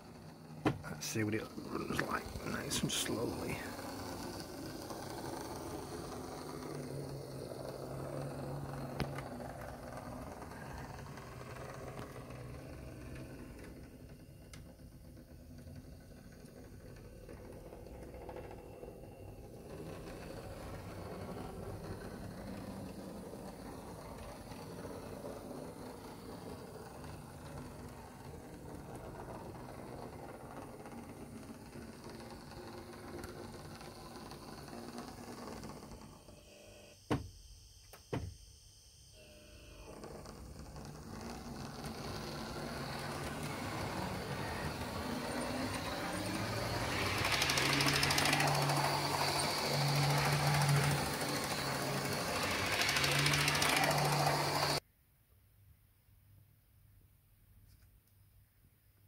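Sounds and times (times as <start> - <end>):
model train motor hum: 0.0 - 54.8.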